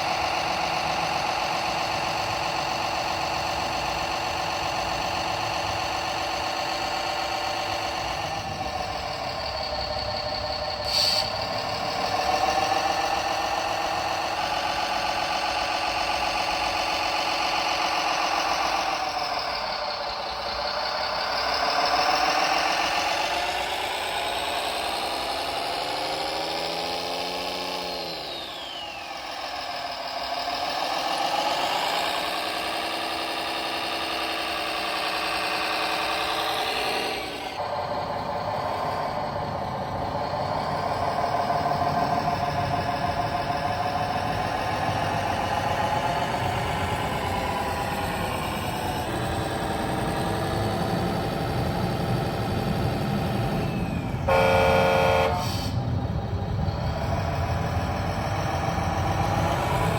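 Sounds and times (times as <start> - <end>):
simulated diesel engine revving: 0.0 - 59.9.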